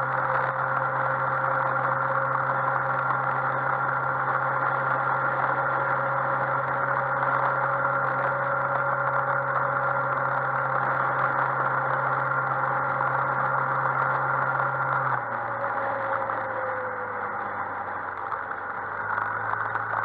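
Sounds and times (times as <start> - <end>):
scooter engine running: 0.0 - 20.0
wind and road noise: 0.0 - 20.0.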